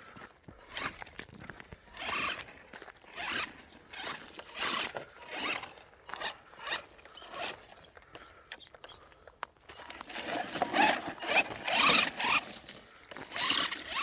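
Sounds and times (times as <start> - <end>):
tyres scrabbling over dirt: 0.0 - 8.5, 9.6 - 14.0.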